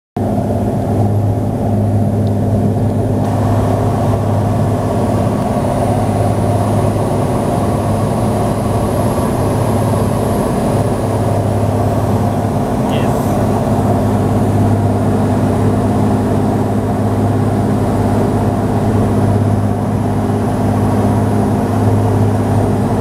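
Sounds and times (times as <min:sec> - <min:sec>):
aircraft engine droning: 0:00.2 - 0:23.0.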